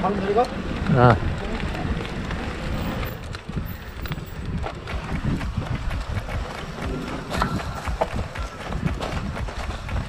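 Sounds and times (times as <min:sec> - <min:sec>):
wind rumble on microphone: 0:00.0 - 0:10.0
bike knocks and rattles: 0:00.6 - 0:10.0.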